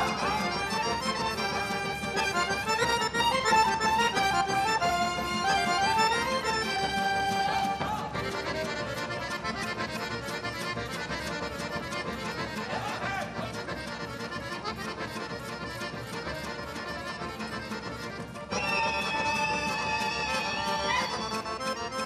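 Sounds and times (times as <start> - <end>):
accordion-led folk dance music: 0.0 - 22.0.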